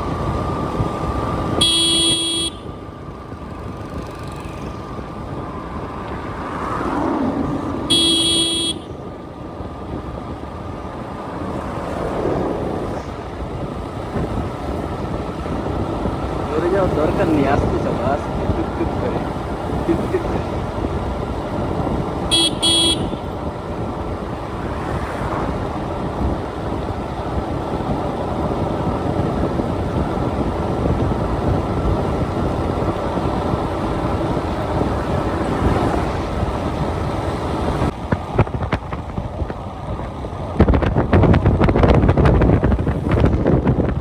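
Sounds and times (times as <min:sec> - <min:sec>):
vehicle rumbling: 0:00.0 - 0:44.0
wind buffeting microphone: 0:02.6 - 0:08.0, 0:08.8 - 0:44.0.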